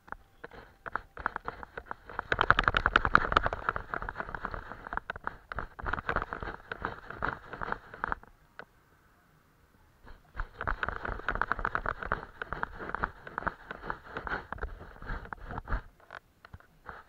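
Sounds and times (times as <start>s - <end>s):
brush strokes on paper: 0.4s - 8.3s, 10.0s - 15.9s.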